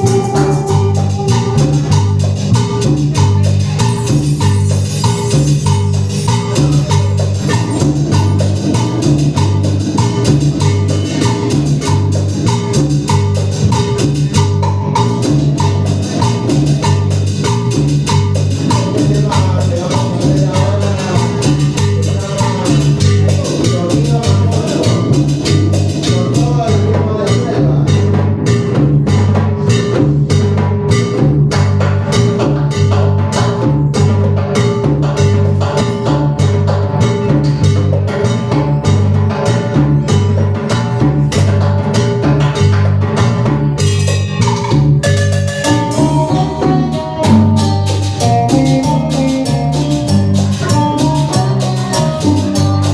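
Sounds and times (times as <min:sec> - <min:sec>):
electric bass line: 0:00.0 - 0:52.9
live band playing cumbia: 0:00.0 - 0:52.9.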